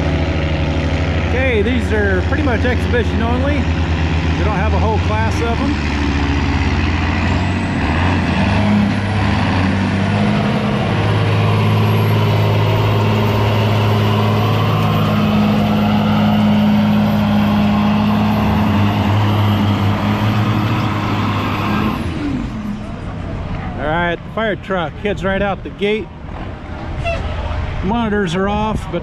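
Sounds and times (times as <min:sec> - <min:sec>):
diesel engine at full throttle: 0:00.0 - 0:29.0.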